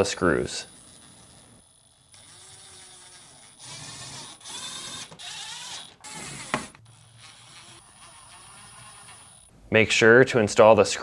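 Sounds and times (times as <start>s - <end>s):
nut driver whirring and ratcheting: 0.0s - 9.5s.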